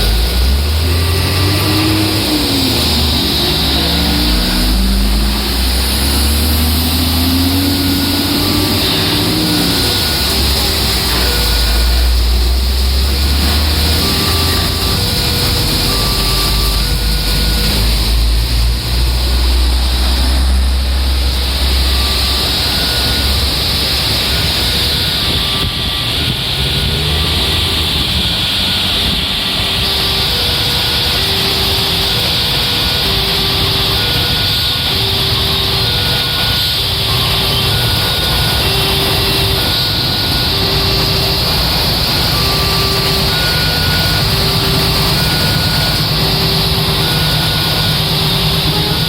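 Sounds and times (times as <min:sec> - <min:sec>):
heavy rain hissing: 0:00.0 - 0:49.0
train engine rumble: 0:00.0 - 0:49.0
two-tone crossing alarm: 0:00.0 - 0:49.0.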